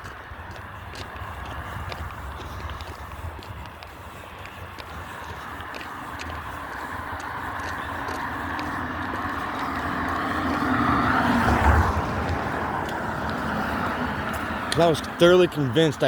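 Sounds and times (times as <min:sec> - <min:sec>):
car passing by: 0:00.0 - 0:16.0.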